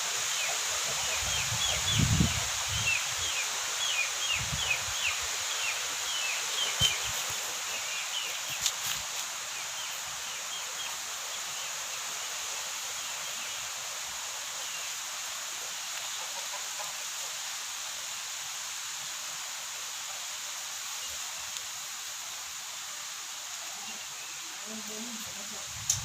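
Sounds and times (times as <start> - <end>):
even outdoor hiss: 0.0 - 26.0.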